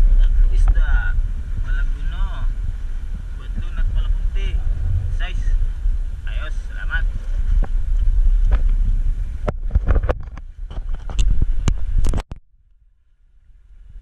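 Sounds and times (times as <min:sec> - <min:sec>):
boat low rumble: 0:00.0 - 0:14.0.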